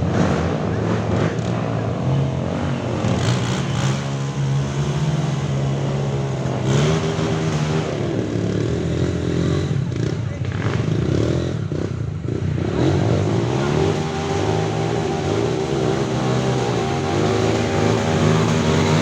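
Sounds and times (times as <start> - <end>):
trail motorcycle engines revving: 0.0 - 19.0.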